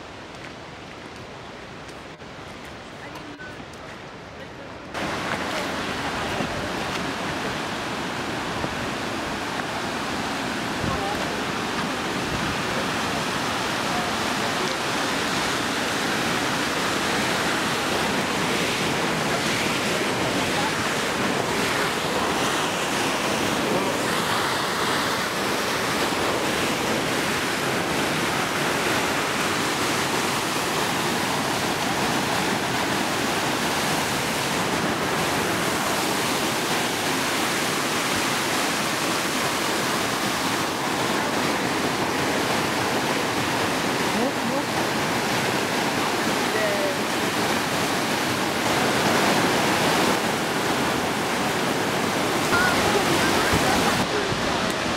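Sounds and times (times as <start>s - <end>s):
creek rushing over rocks: 0.0s - 54.9s.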